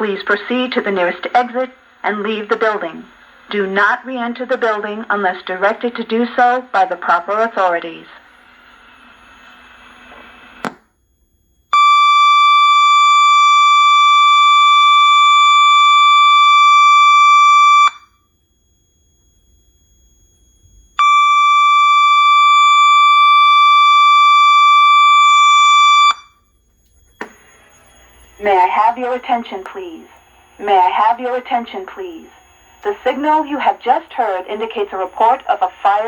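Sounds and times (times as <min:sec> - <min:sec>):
long steady alarm tones: 0:00.0 - 0:36.0.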